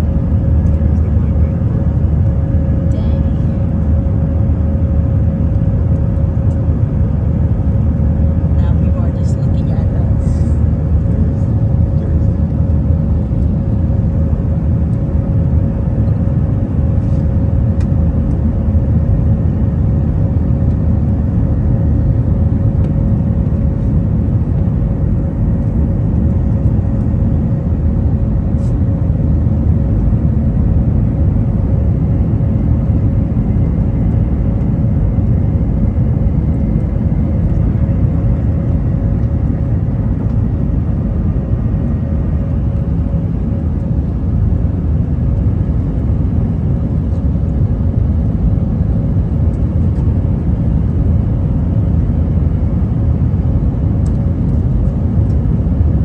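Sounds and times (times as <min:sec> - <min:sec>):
aircraft cabin engine rumble: 0:00.0 - 0:56.0
constant hum tone: 0:00.0 - 0:56.0.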